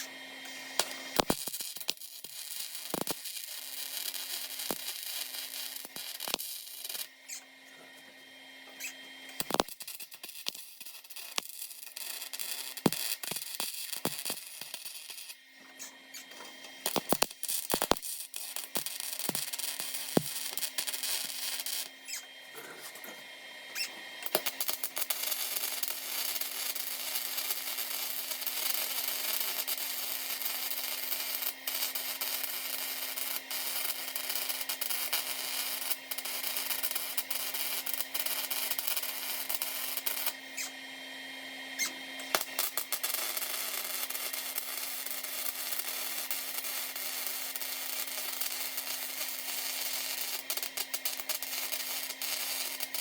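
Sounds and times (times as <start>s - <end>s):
welding arc crackling sizzle: 0.0s - 53.0s.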